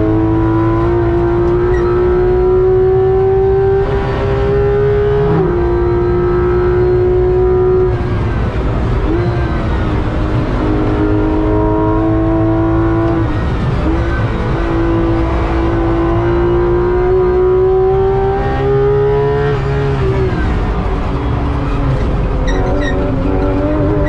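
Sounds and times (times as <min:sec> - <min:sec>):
car engine revving in cabin: 0:00.0 - 0:24.0.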